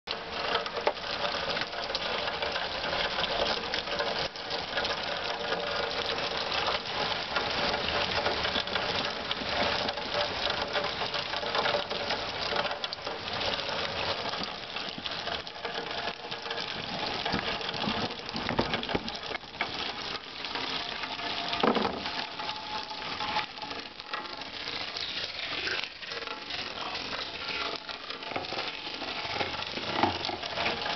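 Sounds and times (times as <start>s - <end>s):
downspout water splashing: 0.1s - 30.9s
rain pattering on plastic lids: 0.1s - 30.9s.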